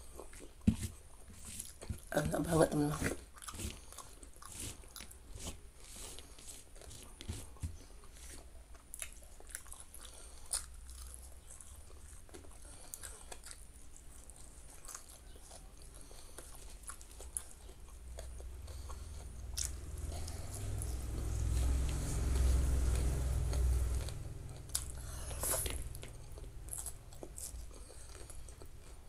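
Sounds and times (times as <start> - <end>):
chewing and crunching vegetables: 0.0 - 29.0.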